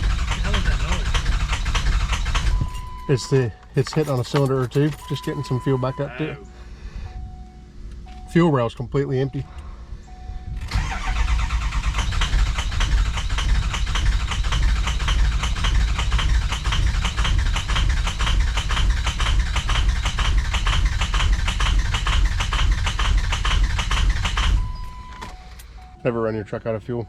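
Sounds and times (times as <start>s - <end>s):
diesel engine cranking: 0.0s - 27.0s.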